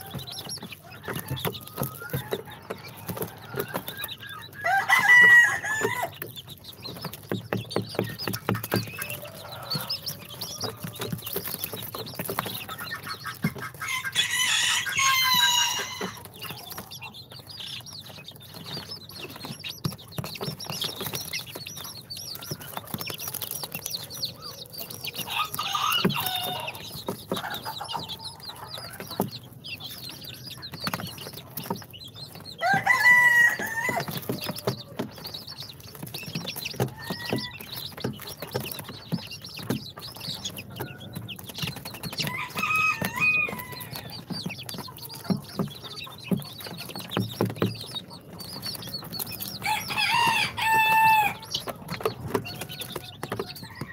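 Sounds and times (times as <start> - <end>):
baby chicks peeping: 0.0 - 53.9.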